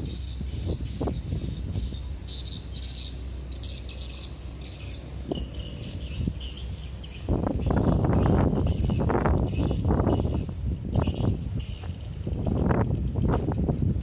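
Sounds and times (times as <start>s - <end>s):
insects chirping: 0.0s - 13.4s.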